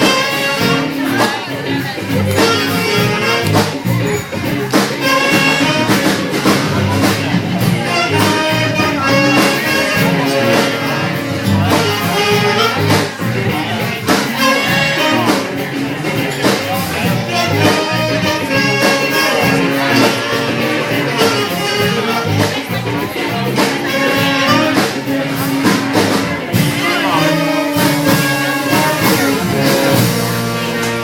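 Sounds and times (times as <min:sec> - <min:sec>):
drum hits: 0:00.0 - 0:31.0
live jazz band playing: 0:00.0 - 0:31.0.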